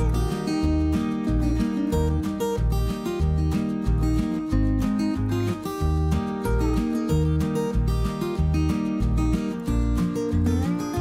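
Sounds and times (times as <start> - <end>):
bass line: 0.0 - 11.0
strummed acoustic guitar: 0.0 - 11.0.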